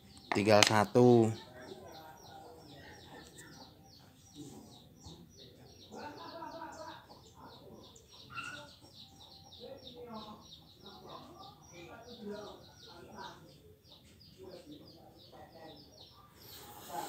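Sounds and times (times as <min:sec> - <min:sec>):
faint voices chatting: 0:00.0 - 0:17.0
small bird chirping: 0:00.0 - 0:17.0.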